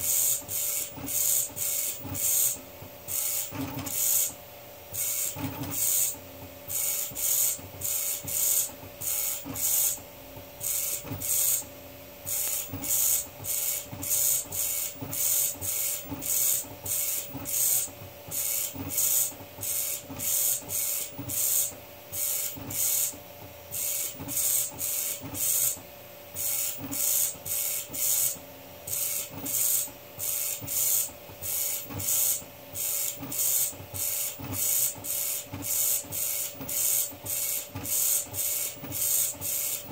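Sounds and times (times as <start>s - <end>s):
stepper motors whirring: 0.0s - 4.4s, 5.0s - 10.0s, 10.6s - 11.7s, 12.3s - 23.2s, 23.8s - 25.8s, 26.4s - 39.9s.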